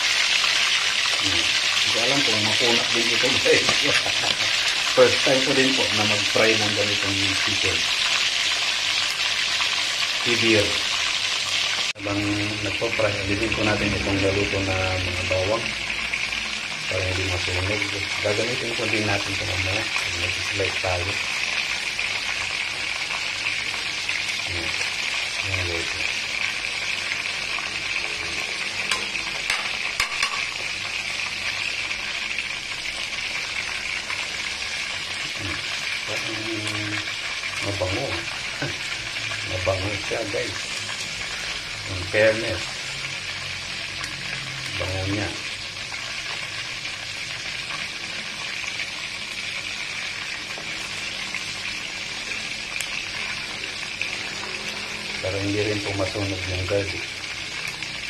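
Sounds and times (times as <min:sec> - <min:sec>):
hot oil sizzling: 0:00.0 - 0:58.0.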